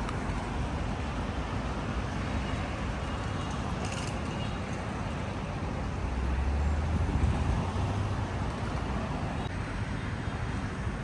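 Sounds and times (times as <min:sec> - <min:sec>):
passing cars hum: 0:00.0 - 0:11.0
vehicle engine rumble: 0:00.0 - 0:11.0.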